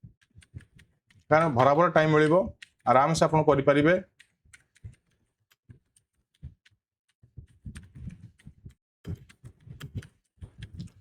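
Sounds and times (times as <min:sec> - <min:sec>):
computer keyboard typing: 0:00.0 - 0:11.0.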